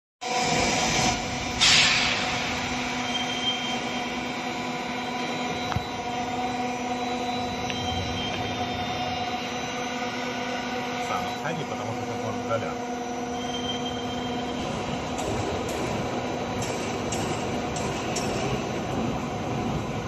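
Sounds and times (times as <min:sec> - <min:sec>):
milling machine hum with tones: 0:00.2 - 0:20.0.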